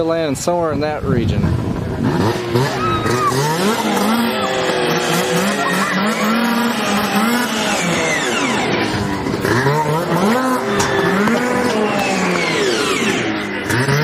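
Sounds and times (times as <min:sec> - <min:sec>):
snowmobile engine revving: 0:01.4 - 0:14.0.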